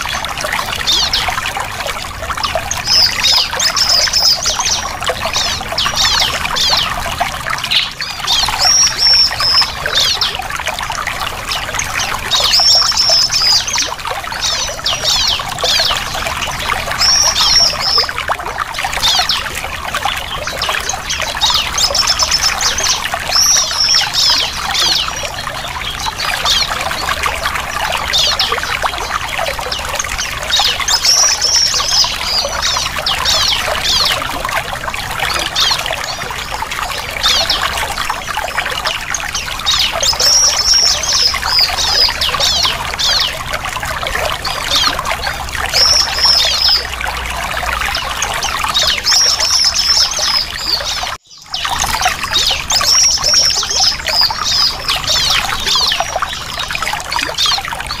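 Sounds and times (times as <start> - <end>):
bird chirping in high runs: 0.0 - 58.0
trickle of running water: 0.0 - 58.0.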